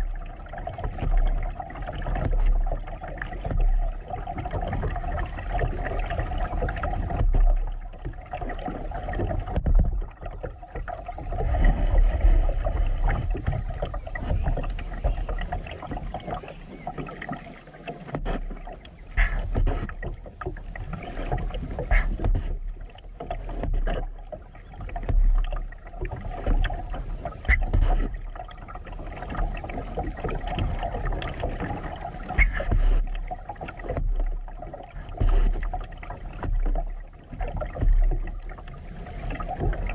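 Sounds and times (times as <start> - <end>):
water sloshing against kayak hull: 0.0 - 39.9.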